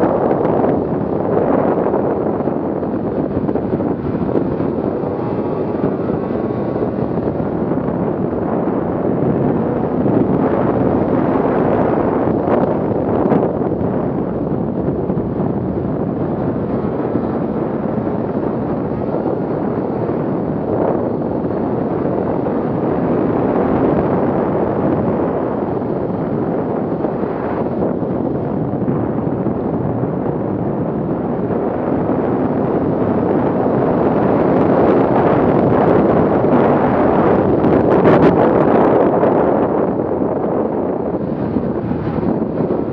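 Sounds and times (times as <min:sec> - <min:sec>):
snowmobile engine running: 0:00.0 - 0:29.2, 0:31.3 - 0:42.9
wind rushing over microphone: 0:00.0 - 0:42.9.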